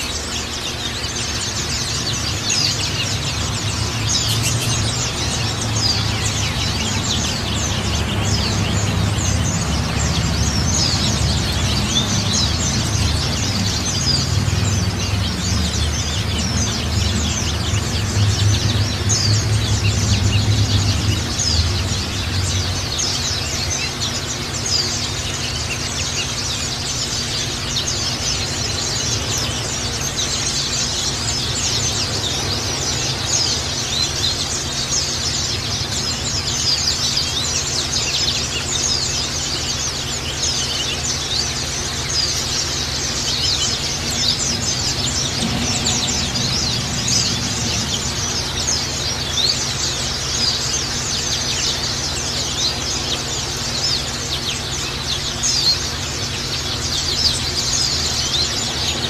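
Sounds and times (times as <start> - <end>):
birds chirping and twittering: 0.0 - 59.0.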